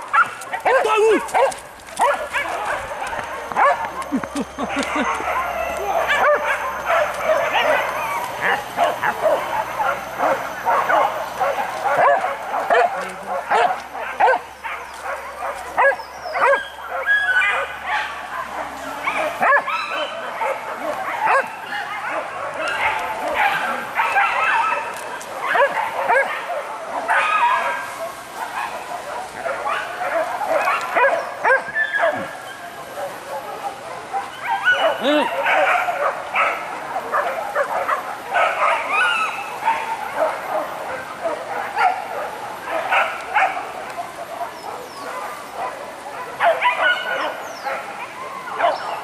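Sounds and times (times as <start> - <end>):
hunting dogs yelping and baying: 0.0 - 49.0.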